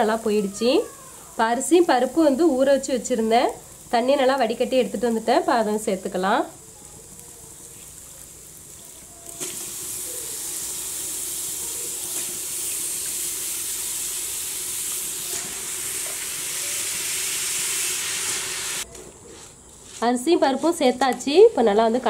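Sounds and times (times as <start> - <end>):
oil sizzling in a pot: 0.0 - 18.9.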